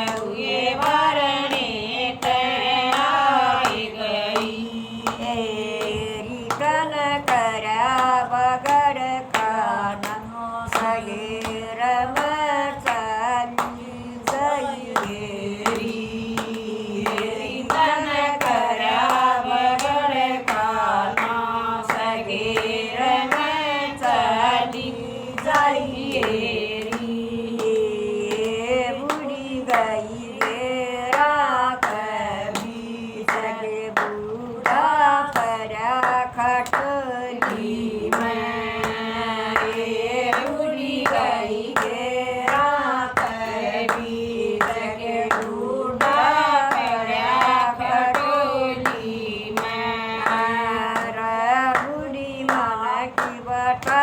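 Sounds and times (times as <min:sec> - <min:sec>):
devotional song singing: 0:00.0 - 0:54.0
hand claps: 0:00.0 - 0:54.0.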